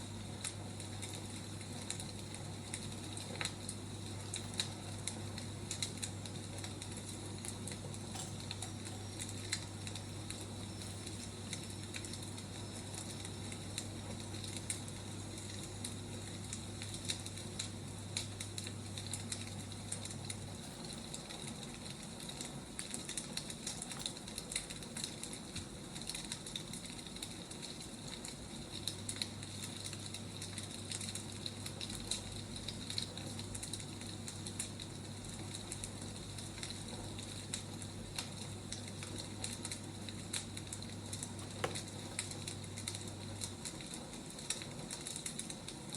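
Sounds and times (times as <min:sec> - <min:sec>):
low steady hum: 0:00.0 - 0:45.9
wood fire crackling: 0:00.0 - 0:45.9.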